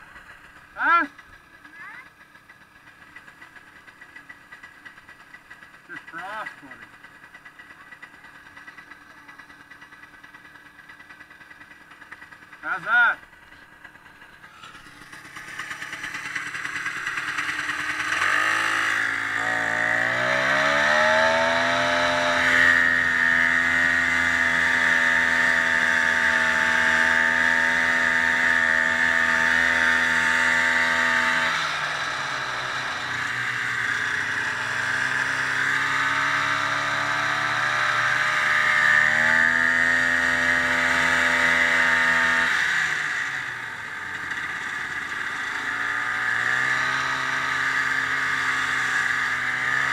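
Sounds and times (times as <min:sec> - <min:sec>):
snowmobile engine running: 0:00.0 - 0:49.9.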